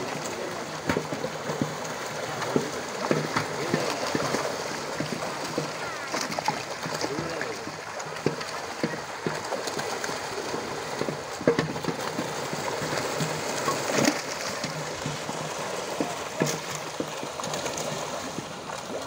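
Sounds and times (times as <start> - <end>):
fish thrashing in water: 0.0 - 19.0.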